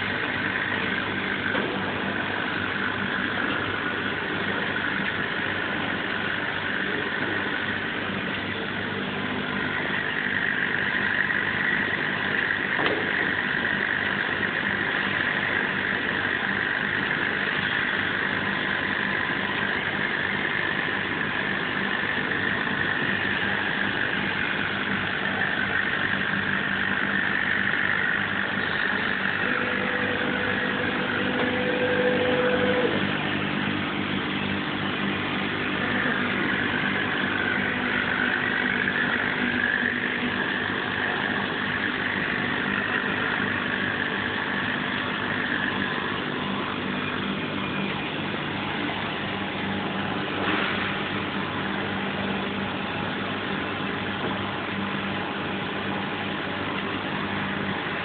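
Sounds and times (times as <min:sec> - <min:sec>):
machinery humming: 0:00.0 - 0:58.0
wavering whine: 0:00.0 - 0:58.0.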